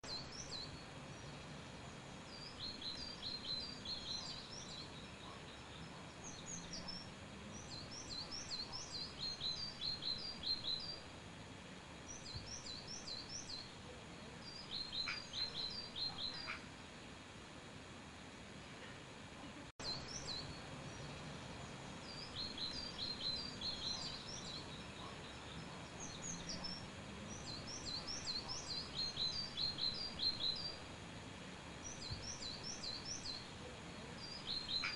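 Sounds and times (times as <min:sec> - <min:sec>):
outdoor background hiss: 0:00.0 - 0:34.9
songbirds chirping: 0:00.0 - 0:34.9.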